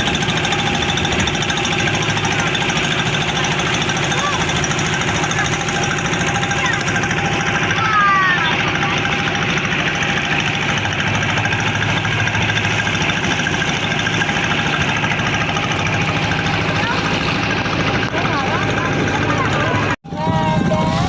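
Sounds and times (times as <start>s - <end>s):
motorboat engine pulsing: 0.0s - 21.0s.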